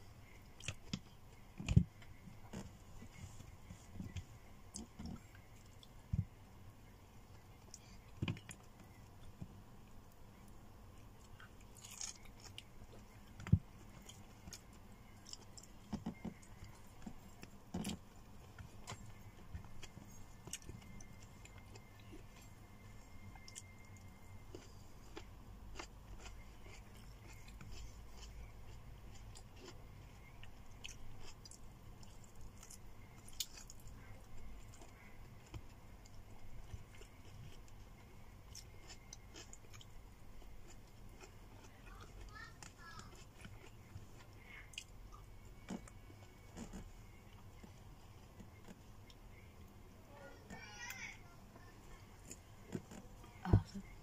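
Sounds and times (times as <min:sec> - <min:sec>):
quiet chewing: 0:00.0 - 0:54.0.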